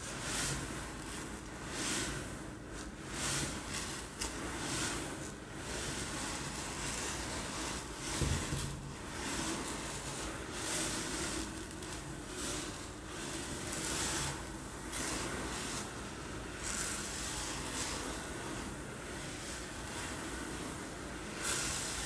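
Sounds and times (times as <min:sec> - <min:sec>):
rice rolling in a container: 0:00.0 - 0:22.0.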